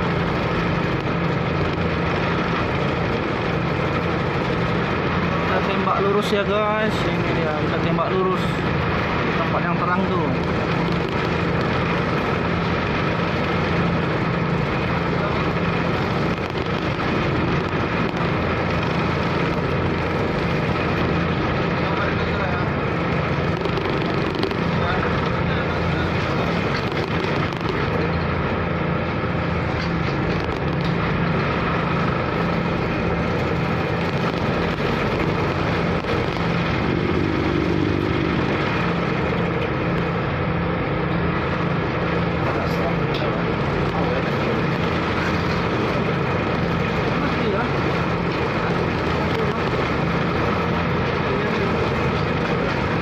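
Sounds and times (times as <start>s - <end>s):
ferry engines humming: 0.0s - 53.0s
waves: 0.0s - 53.0s
wind: 0.0s - 53.0s.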